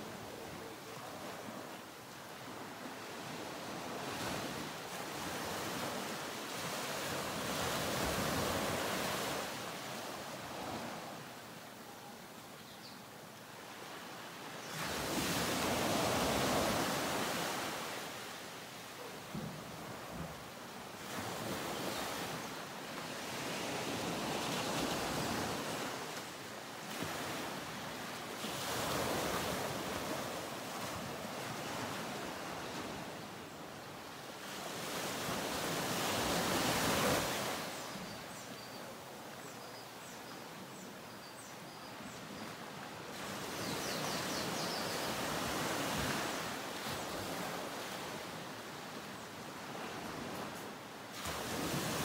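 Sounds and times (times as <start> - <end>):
ocean surf on beach: 0.0 - 52.0.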